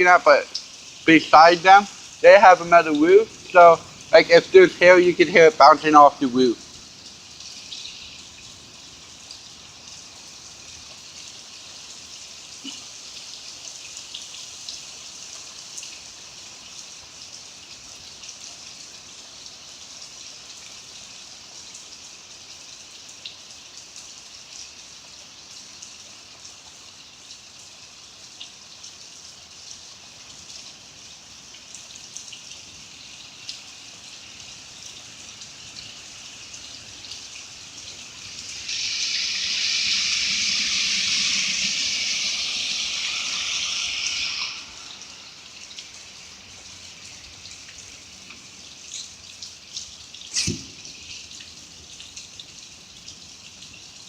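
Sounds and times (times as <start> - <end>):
raindrops ticking on surfaces: 0.0 - 54.0
steady rain hiss: 0.0 - 54.0.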